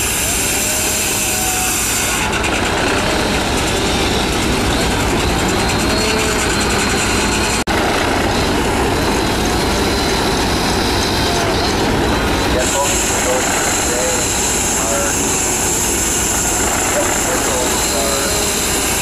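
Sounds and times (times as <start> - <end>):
circular saw cutting a log: 0.0 - 19.0.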